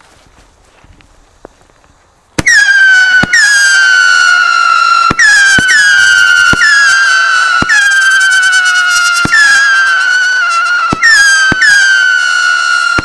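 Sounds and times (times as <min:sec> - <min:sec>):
firework bangs: 0:02.4 - 0:13.0
firework screaming whistles: 0:02.4 - 0:13.0.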